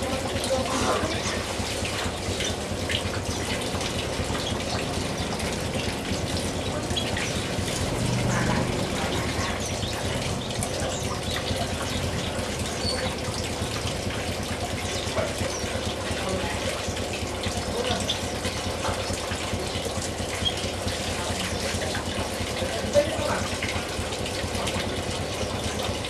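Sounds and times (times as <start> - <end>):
birds splashing in water: 0.0 - 26.0
running water: 0.0 - 26.0.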